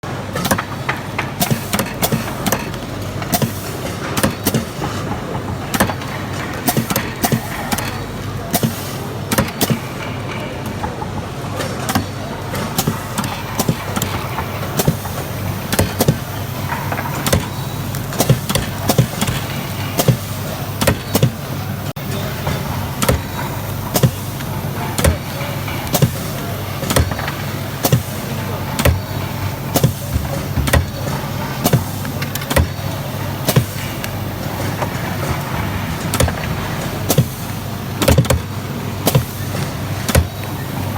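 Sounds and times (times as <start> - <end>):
sharp machine clicks and knocks: 0.4 - 40.6
machinery low hum: 0.6 - 40.9.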